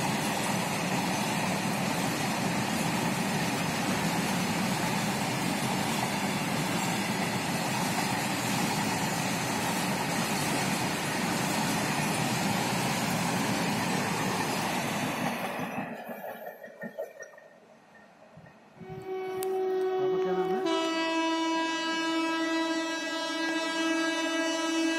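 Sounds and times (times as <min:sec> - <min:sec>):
train rushing past on rails: 0:00.0 - 0:24.9.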